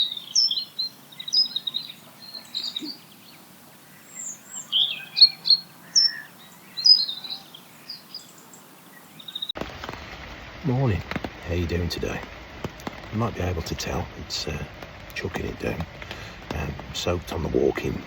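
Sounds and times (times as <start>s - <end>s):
songbirds singing and chirping: 0.0s - 18.0s.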